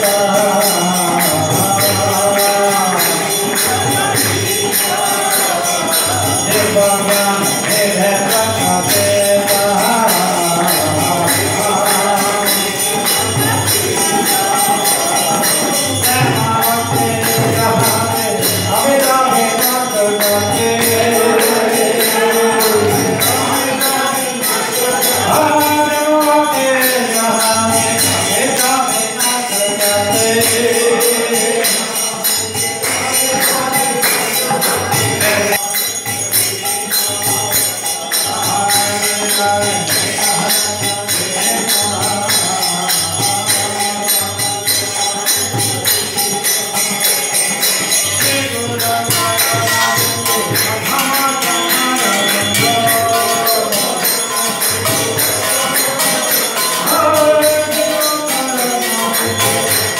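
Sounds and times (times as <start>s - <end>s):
hand cymbals jingling: 0.0s - 59.9s
voices singing: 0.0s - 59.9s.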